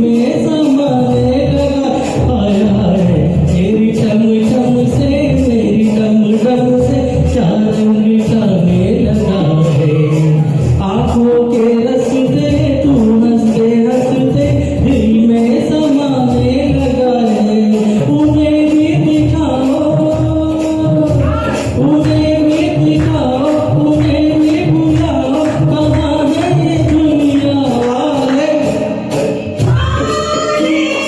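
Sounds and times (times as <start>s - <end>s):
person singing film song: 0.0s - 28.9s, 29.6s - 31.0s
regular percussion beat: 0.0s - 31.0s.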